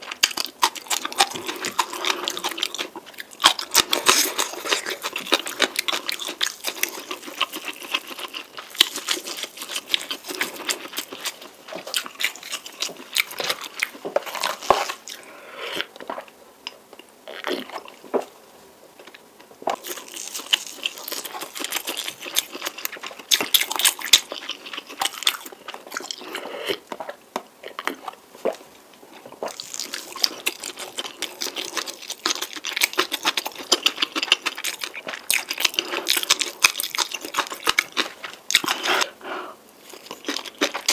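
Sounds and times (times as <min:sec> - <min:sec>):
wet chewing and crunching: 0:00.0 - 0:18.4, 0:19.0 - 0:40.9.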